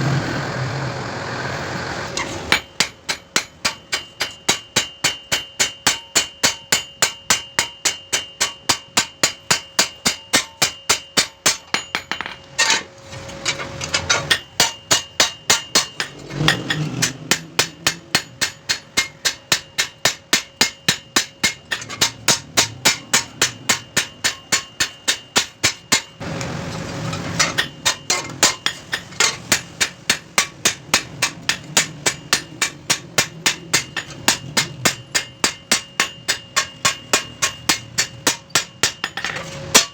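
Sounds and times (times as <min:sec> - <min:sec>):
hammer striking metal blade: 0:02.2 - 0:12.8, 0:13.5 - 0:26.3, 0:27.0 - 0:39.9.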